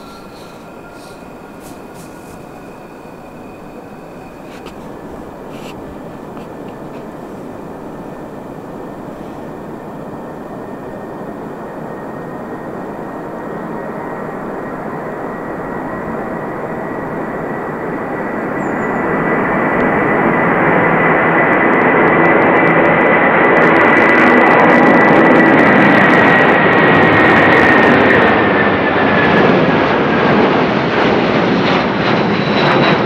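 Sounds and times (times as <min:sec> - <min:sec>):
high steady jet whine: 0:00.0 - 0:33.0
jet engines roaring: 0:00.0 - 0:33.0.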